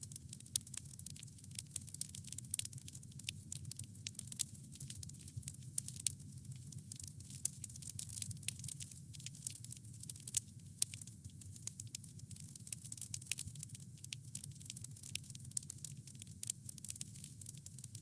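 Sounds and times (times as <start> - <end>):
campfire burning: 0.0 - 18.0
wood crackling and popping: 0.0 - 18.0.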